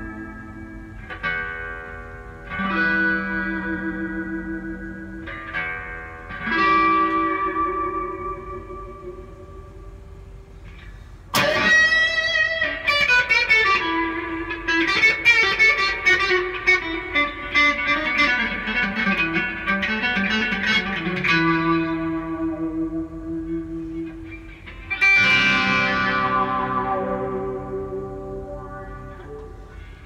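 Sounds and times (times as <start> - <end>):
electric guitar lead: 0.0 - 30.0.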